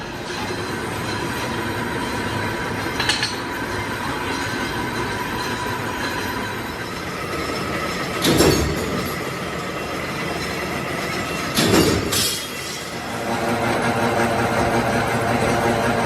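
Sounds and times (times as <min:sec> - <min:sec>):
metal-on-metal noise: 0:00.0 - 0:14.0
metalworking machinery running: 0:00.0 - 0:16.0.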